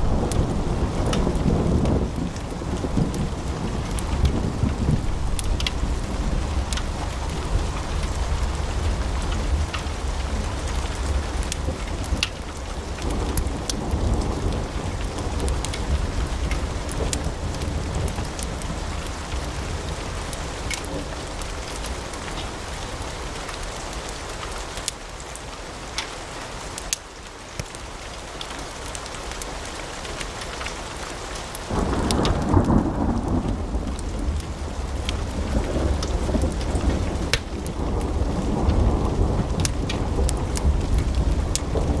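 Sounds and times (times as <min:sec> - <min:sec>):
log fire crackling and popping: 0:00.0 - 0:26.2, 0:26.8 - 0:42.0
low rumble of flames: 0:00.0 - 0:42.0.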